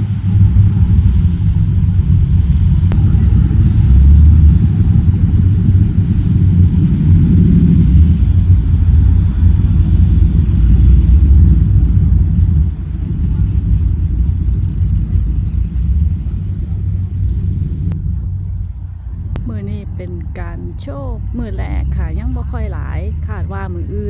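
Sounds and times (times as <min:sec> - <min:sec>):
car engines rumbling: 0:00.0 - 0:24.0.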